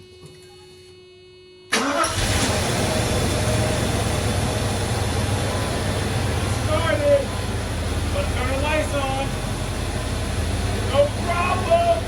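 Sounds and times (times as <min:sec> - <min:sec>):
car engine cranking and running: 0:01.8 - 0:12.0.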